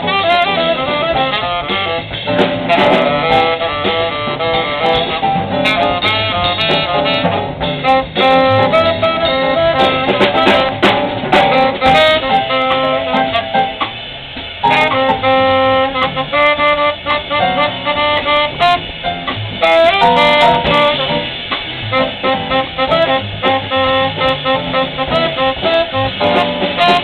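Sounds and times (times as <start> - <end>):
tenor saxophone melody: 0.0 - 13.9, 14.6 - 27.0
double bass: 0.0 - 27.0
drum kit with cymbal hits: 0.0 - 27.0
electric guitars: 0.0 - 27.0
piano: 0.0 - 27.0.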